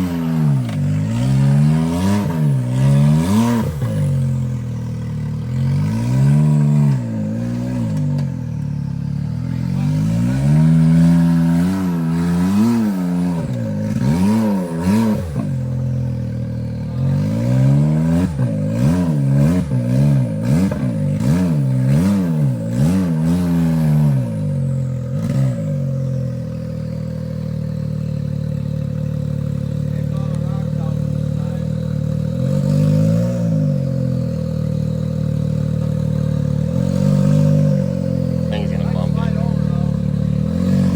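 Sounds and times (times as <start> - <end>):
engine revving and idling: 0.0 - 40.9.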